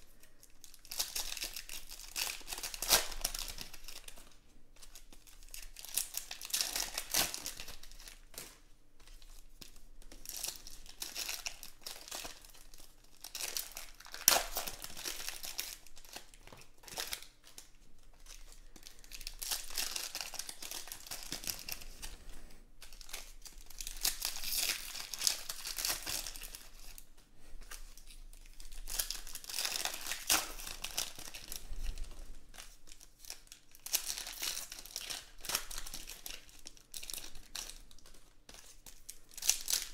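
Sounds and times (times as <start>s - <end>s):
foil wrappers crinkling and tearing: 0.0s - 39.9s.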